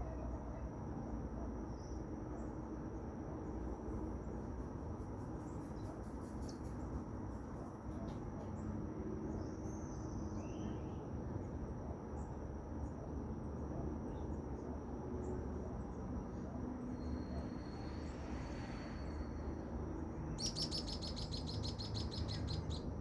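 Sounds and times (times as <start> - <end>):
cricket-like insect trill: 0.0 - 23.0
low rumbling background noise: 0.0 - 23.0.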